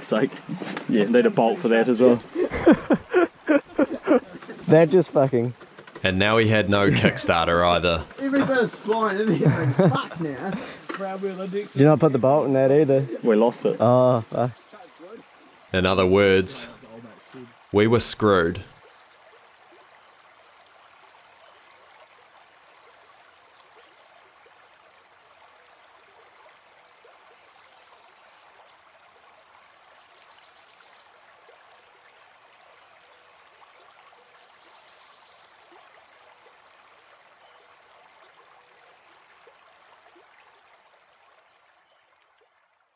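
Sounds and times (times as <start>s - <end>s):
creek running: 0.0s - 42.9s.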